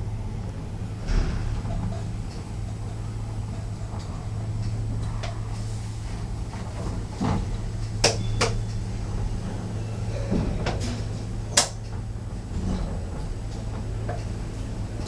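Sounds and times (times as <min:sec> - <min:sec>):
lift low hum: 0:00.0 - 0:15.0.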